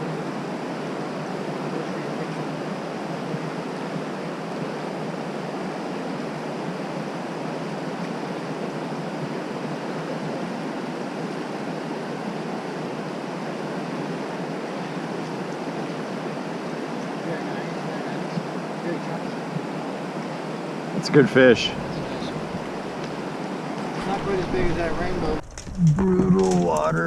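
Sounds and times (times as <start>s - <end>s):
river whitewater rushing: 0.0s - 25.4s.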